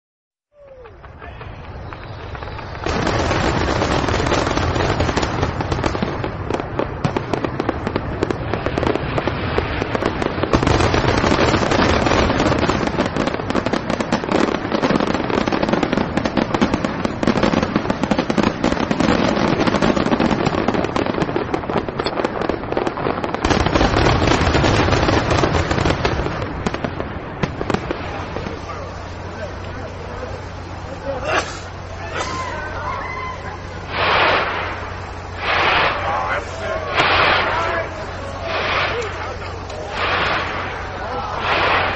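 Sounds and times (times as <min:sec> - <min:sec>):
fireworks banging and crackling: 0:00.5 - 0:41.9.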